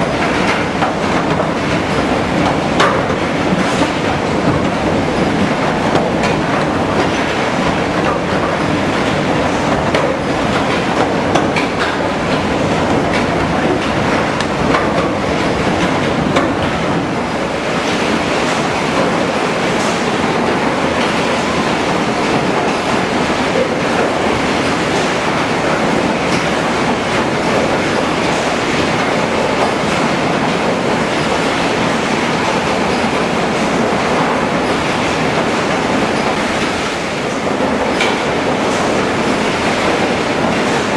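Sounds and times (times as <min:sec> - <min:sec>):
machine clatter: 0:00.0 - 0:40.9.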